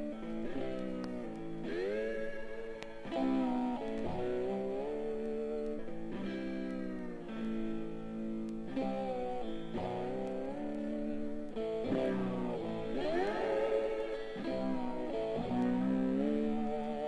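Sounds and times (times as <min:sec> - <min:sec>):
electric slide guitar: 0:00.0 - 0:17.0.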